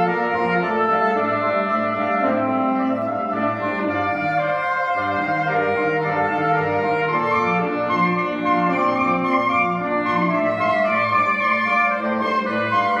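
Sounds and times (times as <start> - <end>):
saxophone quartet playing: 0.0 - 13.0.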